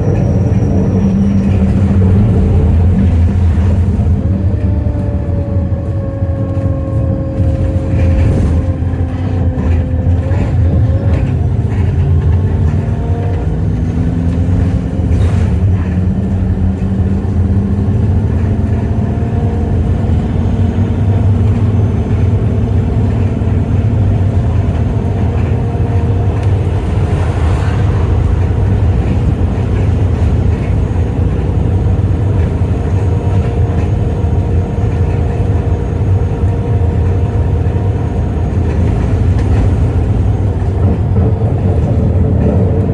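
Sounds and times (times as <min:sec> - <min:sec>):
bus engine droning: 0:00.0 - 0:42.9.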